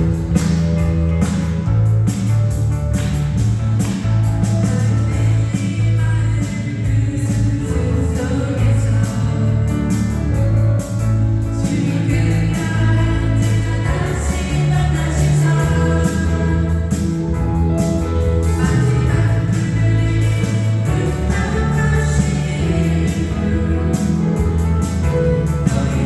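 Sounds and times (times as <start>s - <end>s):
worship song with band: 0.0s - 26.0s.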